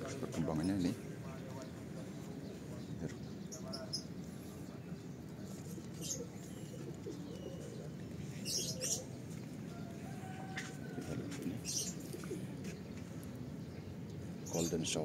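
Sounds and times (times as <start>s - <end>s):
doves cooing: 0.0s - 13.4s
birds chirping: 0.0s - 15.0s
outdoor hush: 0.0s - 15.0s.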